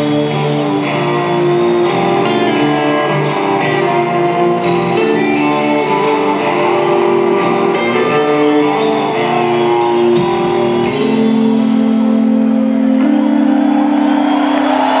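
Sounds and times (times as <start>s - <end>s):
drums: 0.0s - 15.0s
electric guitars: 0.0s - 15.0s.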